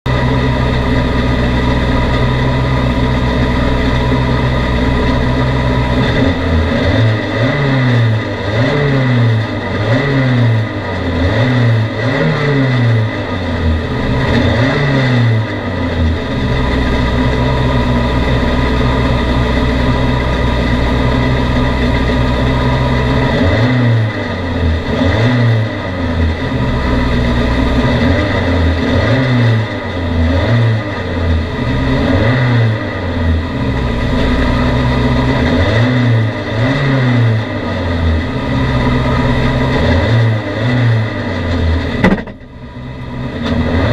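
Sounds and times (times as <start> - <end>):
race car engine revving: 0.1 - 43.9.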